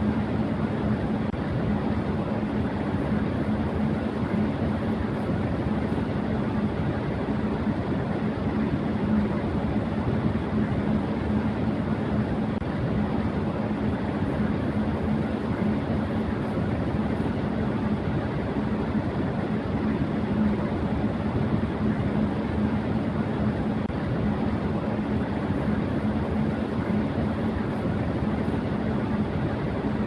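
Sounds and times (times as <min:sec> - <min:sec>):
electric fan running: 0:00.0 - 0:30.0.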